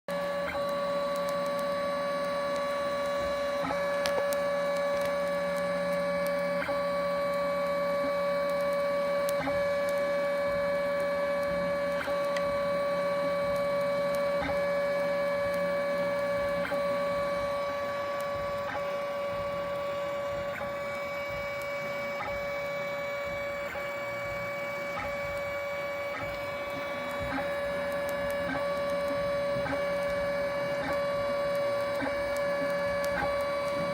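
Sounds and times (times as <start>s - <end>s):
nozzle crackling and popping: 0.1s - 33.9s.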